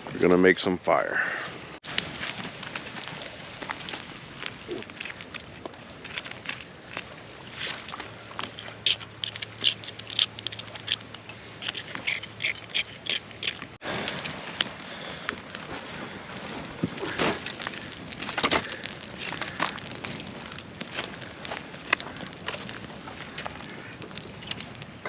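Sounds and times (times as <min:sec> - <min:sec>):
campfire crackling and popping: 0:01.8 - 0:25.0.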